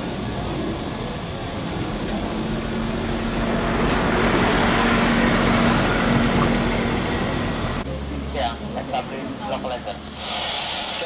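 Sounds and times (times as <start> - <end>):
jet airliner engines at takeoff: 0.0 - 7.9, 8.5 - 11.0.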